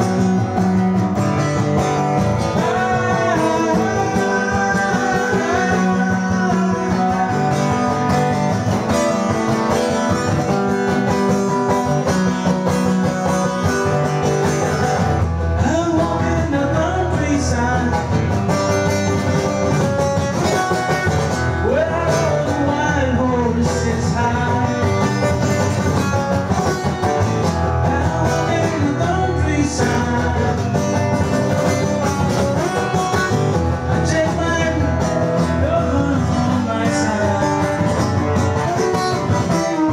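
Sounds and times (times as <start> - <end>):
acoustic guitar strummed: 0.0 - 39.9
man singing: 1.3 - 11.0, 15.4 - 39.9.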